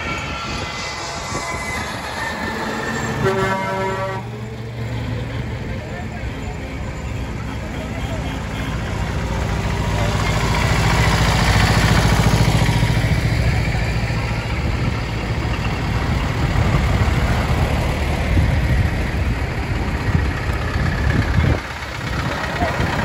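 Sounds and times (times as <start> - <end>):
diesel engines driving past: 0.0 - 23.0.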